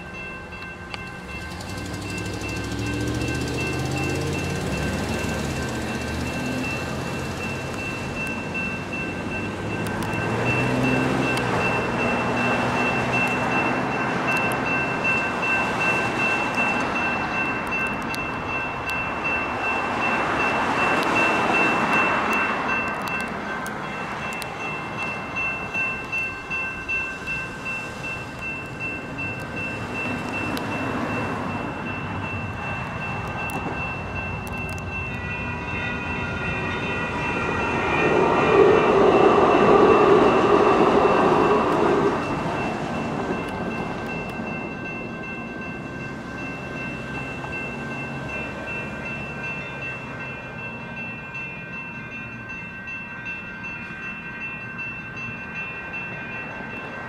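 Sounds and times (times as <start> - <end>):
light rail train passing: 0.0 - 57.0
passing road traffic: 0.0 - 57.0
railroad crossing bell ringing: 0.0 - 57.0.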